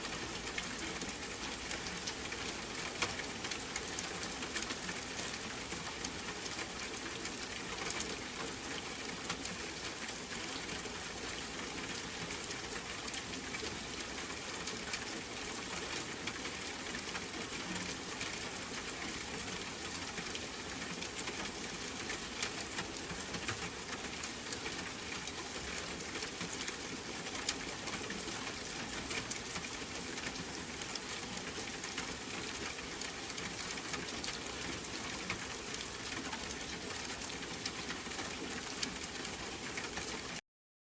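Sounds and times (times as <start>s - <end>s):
steady rain falling: 0.0s - 40.4s.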